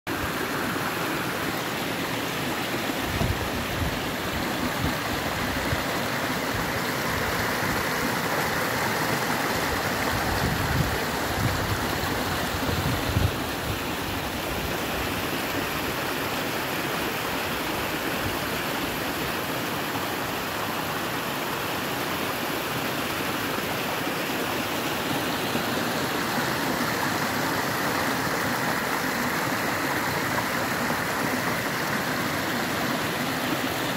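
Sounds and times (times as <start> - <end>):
stream running over stones: 0.1 - 33.9.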